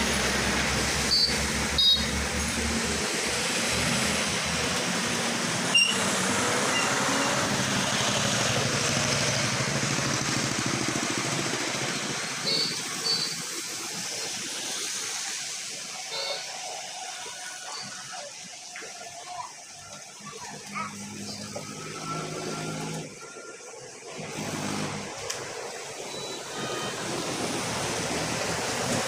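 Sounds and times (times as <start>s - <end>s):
engine hum: 0.0s - 29.0s
traffic on wet road: 0.0s - 29.0s.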